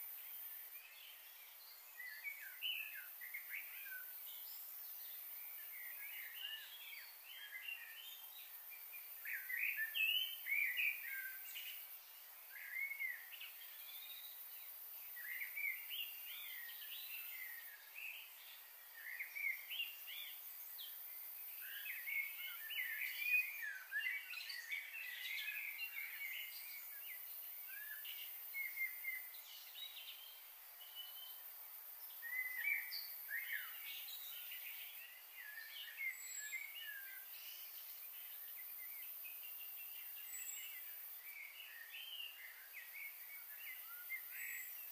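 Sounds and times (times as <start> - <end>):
small birds chirping: 0.0 - 44.9
steady high hiss: 0.0 - 44.9.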